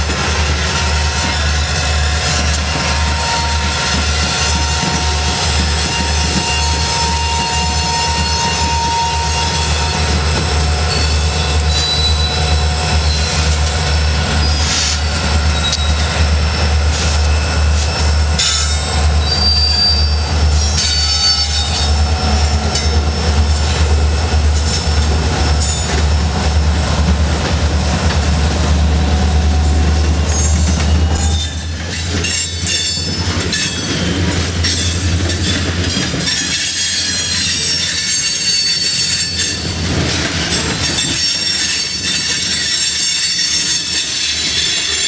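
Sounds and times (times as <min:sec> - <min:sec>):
freight train rumbling past: 0:00.0 - 0:45.0
steel wheels squealing: 0:00.2 - 0:26.6, 0:27.7 - 0:45.0.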